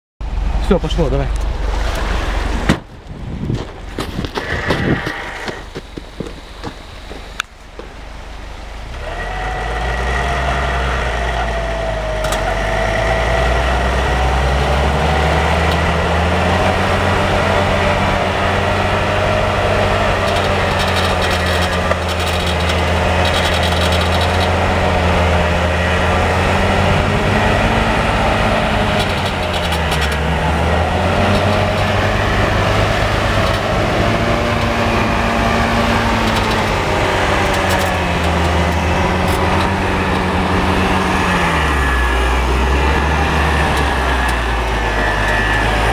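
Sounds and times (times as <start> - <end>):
off-road vehicle engine under load: 0.2 - 45.9
winch whine: 1.3 - 7.5, 8.8 - 45.9.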